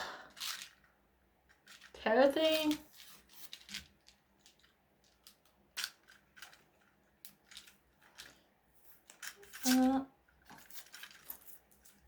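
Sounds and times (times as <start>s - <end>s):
plastic wrapper crinkling: 0.3s - 12.0s.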